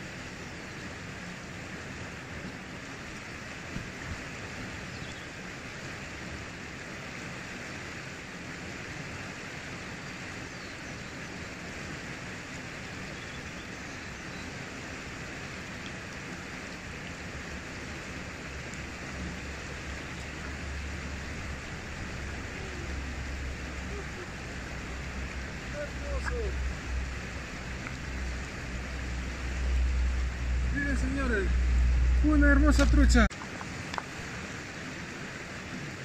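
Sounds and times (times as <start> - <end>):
river flowing over stones: 0.0 - 36.0.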